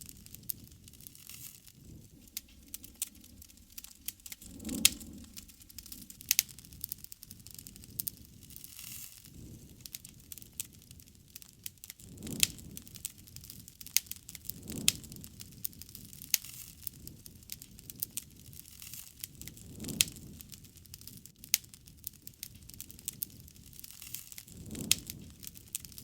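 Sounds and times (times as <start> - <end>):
low rush of flame: 0.0 - 26.0
wood fire crackling and popping: 0.0 - 26.0.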